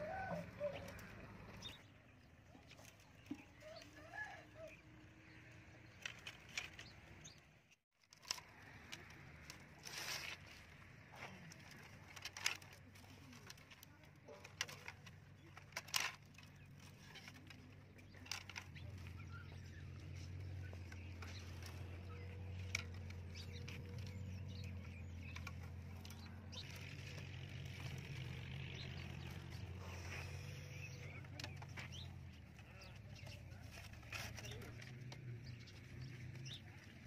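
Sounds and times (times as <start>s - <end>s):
bamboo sticks knocking and rustling: 2.5s - 4.8s, 5.8s - 37.0s.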